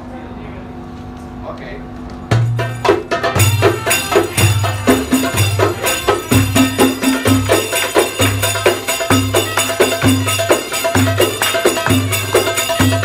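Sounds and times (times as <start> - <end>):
frame drums with jingles: 2.2 - 13.0.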